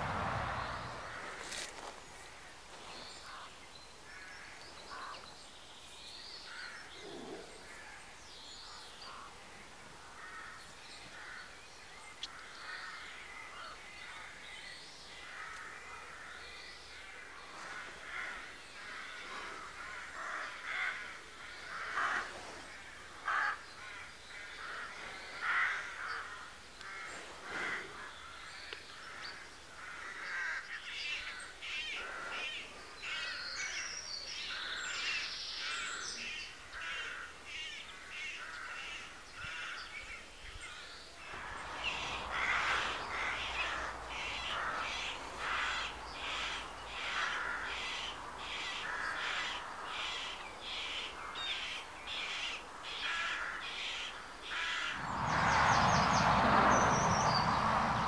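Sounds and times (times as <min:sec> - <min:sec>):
wild birds calling: 0:00.0 - 0:58.0.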